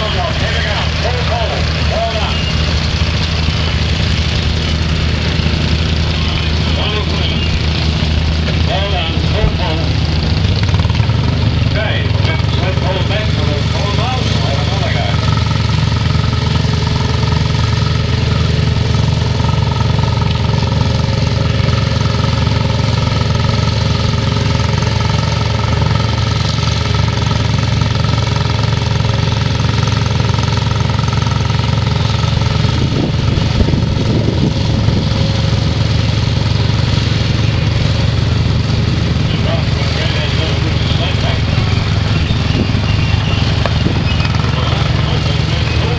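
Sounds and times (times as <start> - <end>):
small tractor engine running: 0.0 - 45.9.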